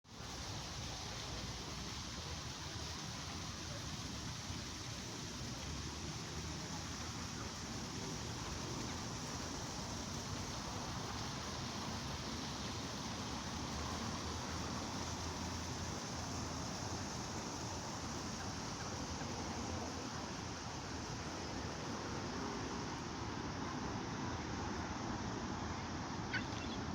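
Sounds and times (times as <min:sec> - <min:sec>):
light drizzling rain: 0:00.0 - 0:26.9
fountain water rushing: 0:00.1 - 0:26.9.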